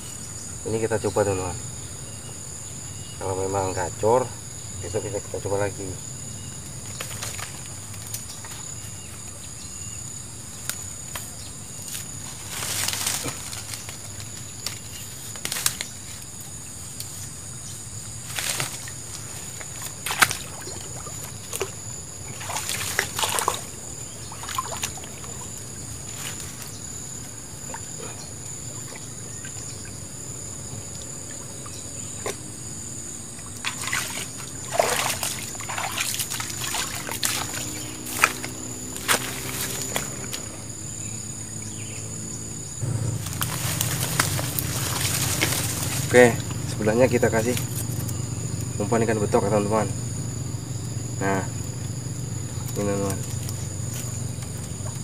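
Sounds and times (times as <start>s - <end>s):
high insect drone: 0.0s - 55.0s
river water splashing: 6.1s - 9.6s, 10.2s - 41.9s, 42.8s - 55.0s.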